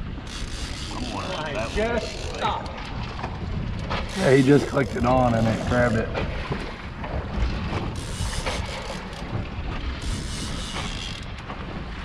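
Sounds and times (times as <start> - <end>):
boat low rumble: 0.0 - 12.0
wind buffeting microphone: 0.0 - 12.0.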